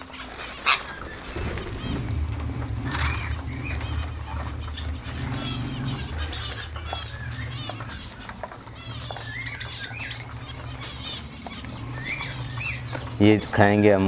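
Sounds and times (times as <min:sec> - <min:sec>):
low steady hum: 0:00.0 - 0:14.0
parakeets chirping and squawking: 0:00.0 - 0:14.0.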